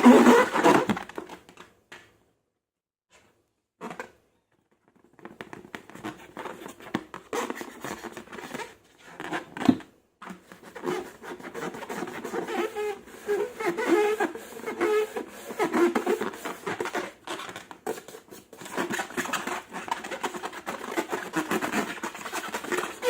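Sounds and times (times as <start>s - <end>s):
rubber balloon squeaks: 0.0s - 1.2s, 3.8s - 4.2s, 5.6s - 23.0s.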